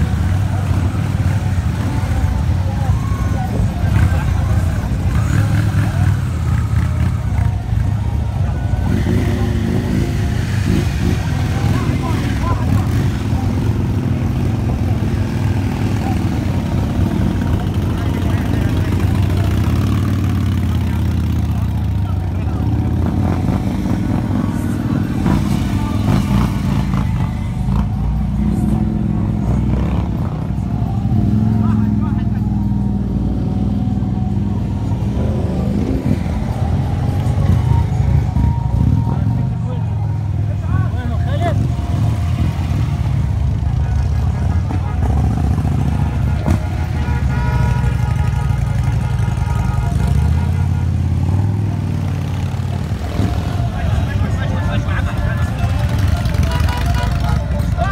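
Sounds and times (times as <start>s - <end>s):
motorcycle engines passing slowly: 0.0s - 57.9s.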